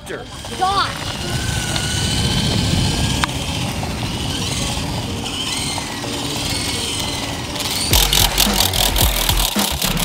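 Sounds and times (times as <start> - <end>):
toy helicopter motor whine: 0.0 - 10.0.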